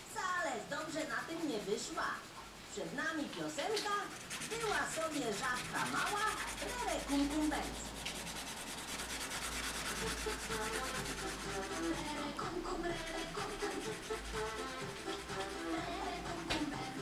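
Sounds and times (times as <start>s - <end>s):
pencil scratching on paper: 0.6s - 16.5s.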